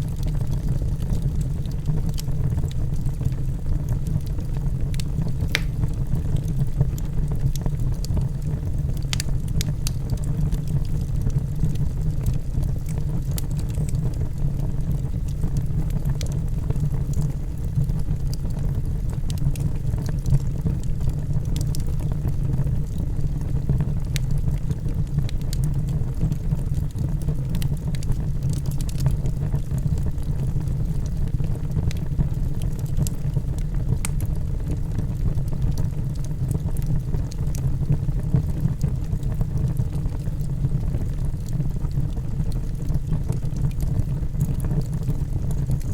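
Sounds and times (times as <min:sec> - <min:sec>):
fire crackling and popping: 0:00.0 - 0:45.9
fire rumbling: 0:00.0 - 0:45.9.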